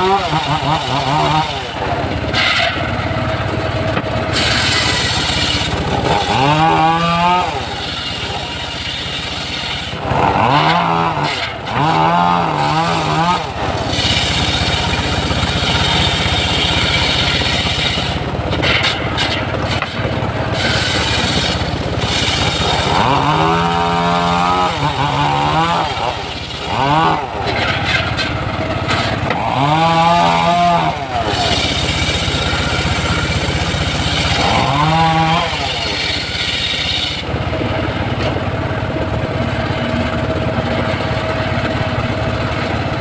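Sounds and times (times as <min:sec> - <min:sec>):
circular sawmill cutting log: 0:00.0 - 0:43.0.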